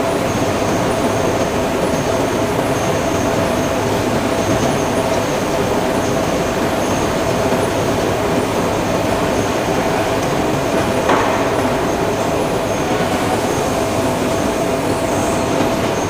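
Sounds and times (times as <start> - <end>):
machinery noise with whine: 0.0 - 16.0.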